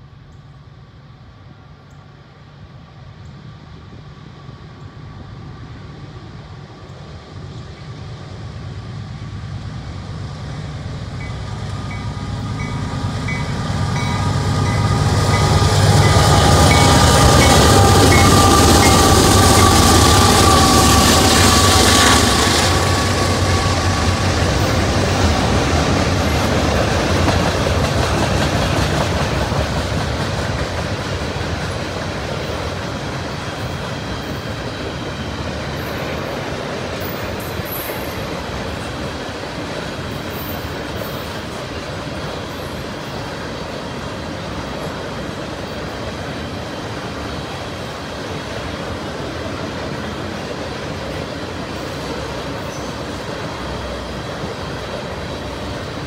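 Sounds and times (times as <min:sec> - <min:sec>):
diesel freight train passing: 0:00.0 - 0:56.0.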